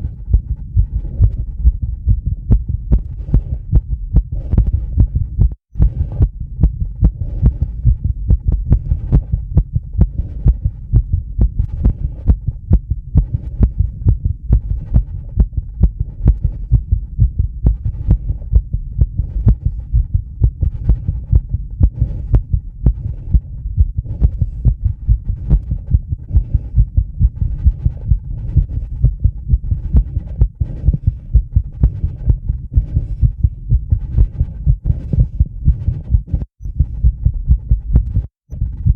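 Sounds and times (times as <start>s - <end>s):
fast heartbeat: 0.0s - 38.9s
low steady rumble: 0.0s - 38.9s.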